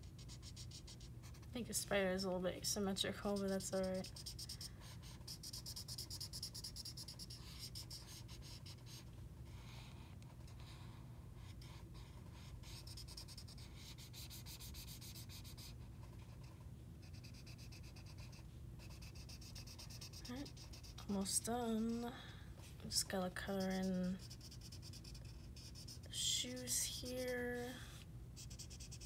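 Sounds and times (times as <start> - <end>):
marker scratching on paper: 0.0 - 1.6, 3.1 - 21.4, 22.9 - 29.0.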